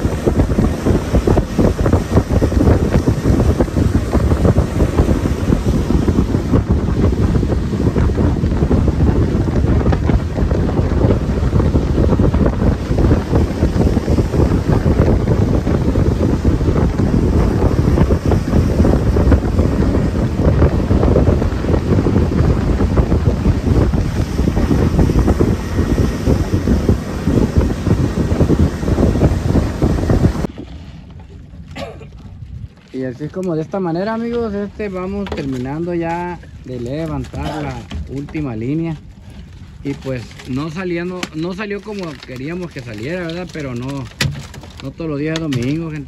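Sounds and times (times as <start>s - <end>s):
outboard motor: 0.0s - 46.0s
water rushing under hull: 0.0s - 46.0s
wind buffeting microphone: 0.0s - 46.0s.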